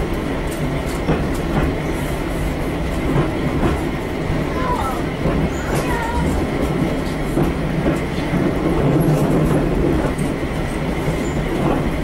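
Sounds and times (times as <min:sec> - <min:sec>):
wheels rumbling on rails: 0:00.0 - 0:12.0.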